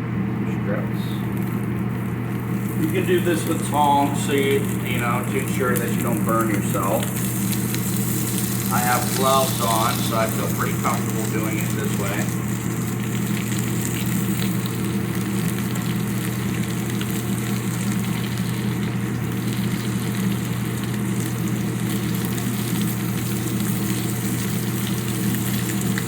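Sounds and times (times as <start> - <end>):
constant low hum: 0.0 - 26.0
chicken sizzling in hot oil: 1.3 - 26.0.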